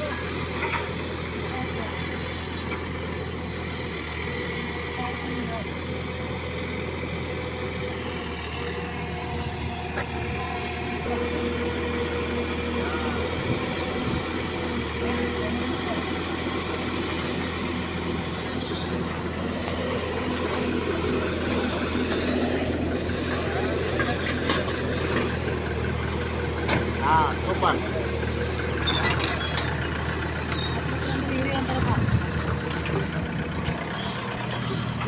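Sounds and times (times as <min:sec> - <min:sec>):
excavator engine running: 0:00.0 - 0:35.0.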